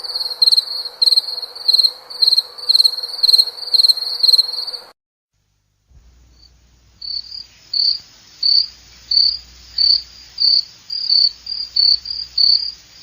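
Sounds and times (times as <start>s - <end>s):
cricket chirping: 0.0s - 4.9s, 6.3s - 13.0s.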